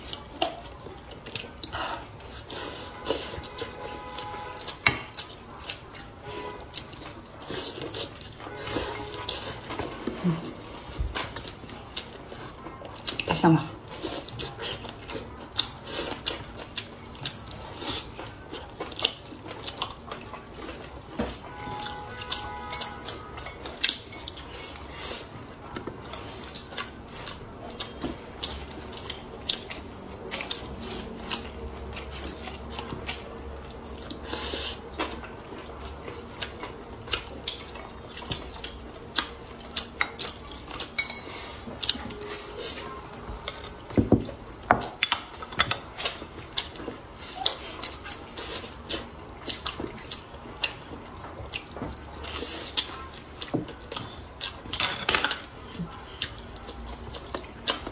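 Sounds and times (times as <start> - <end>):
chewing and wet mouth sounds: 0.0 - 57.9.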